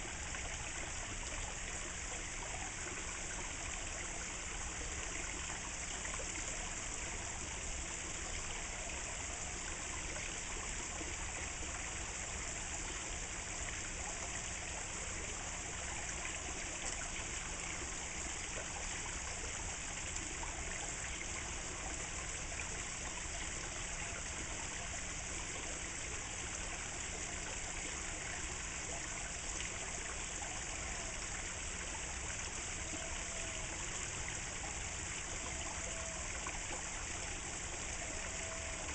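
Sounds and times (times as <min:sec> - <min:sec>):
fountain water trickling into pond: 0:00.0 - 0:38.9.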